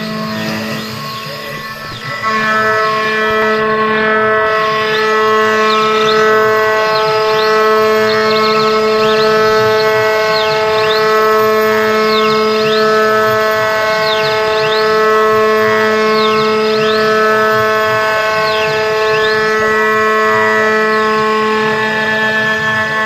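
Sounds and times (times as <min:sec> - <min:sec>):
high whine swooping in pitch: 0:00.0 - 0:23.0
router spindle whining: 0:00.0 - 0:23.0.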